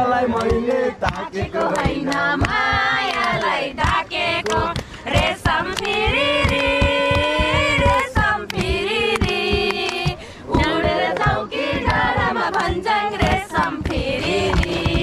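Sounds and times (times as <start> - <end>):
group singing without instruments: 0.0 - 15.0
sharp knocks: 0.3 - 15.0.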